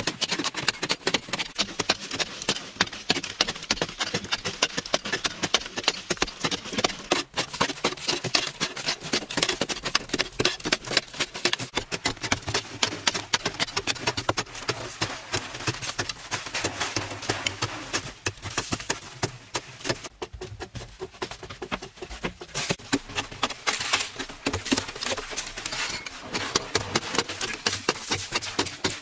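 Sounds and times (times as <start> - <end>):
hand tool knocking and scraping: 0.0 - 29.0.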